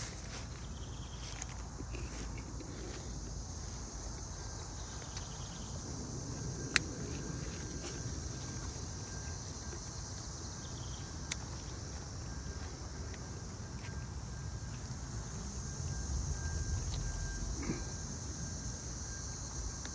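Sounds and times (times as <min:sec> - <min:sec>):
low rumbling noise: 0:00.0 - 0:19.8
high-pitched insect drone: 0:00.0 - 0:19.9.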